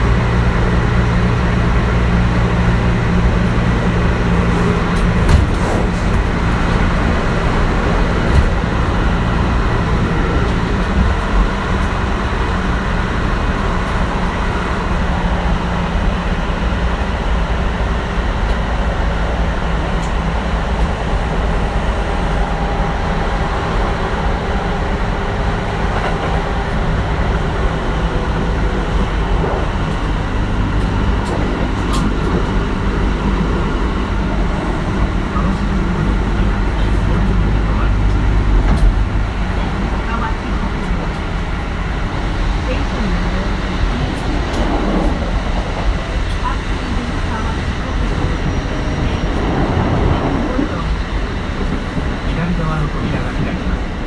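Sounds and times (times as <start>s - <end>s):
train wheel and track rumble: 0.0s - 54.0s.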